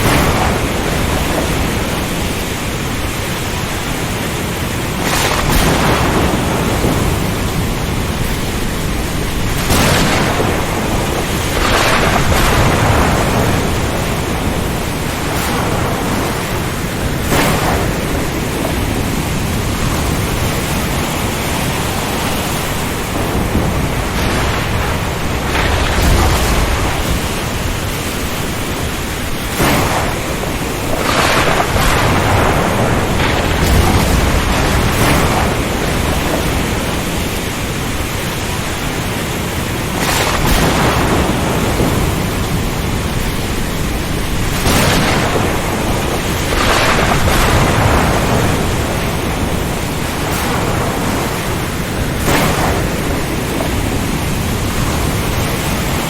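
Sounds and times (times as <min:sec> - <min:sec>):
rain: 0:00.0 - 0:56.0
thunder crashes: 0:00.0 - 0:56.0
wind rushing: 0:00.0 - 0:56.0.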